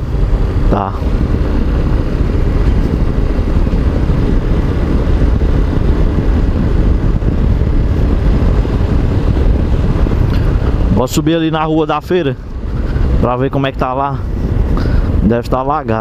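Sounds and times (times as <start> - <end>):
motorcycle engine rumble: 0.0 - 16.0
road noise: 0.0 - 16.0
wind noise: 0.0 - 16.0.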